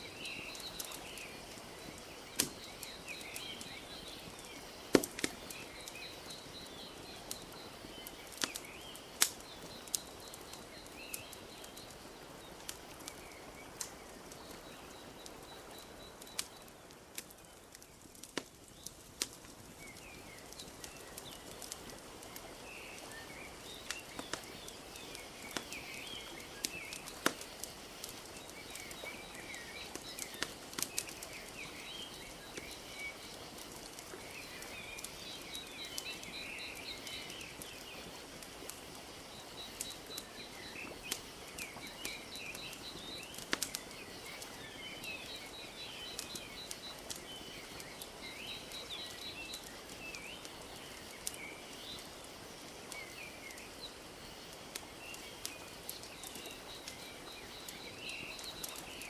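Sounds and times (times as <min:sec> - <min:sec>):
small birds chirping: 0:00.0 - 0:59.0
wood fire crackling: 0:00.0 - 0:59.0.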